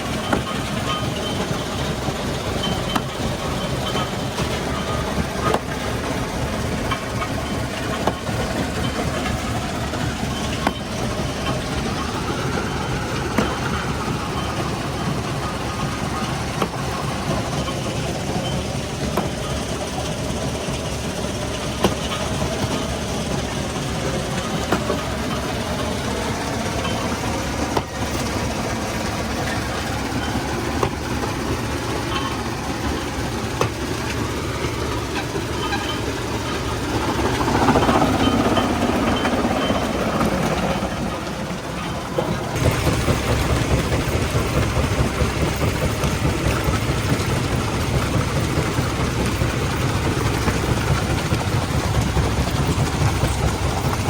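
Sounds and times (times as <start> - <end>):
stone crushing machinery running: 0.0 - 54.0.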